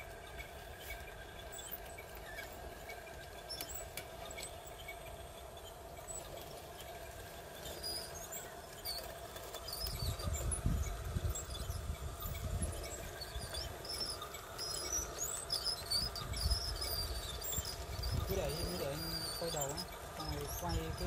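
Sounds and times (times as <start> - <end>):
high squeaks and chirps: 0.0 - 21.0
toy truck motor whining: 0.0 - 21.0.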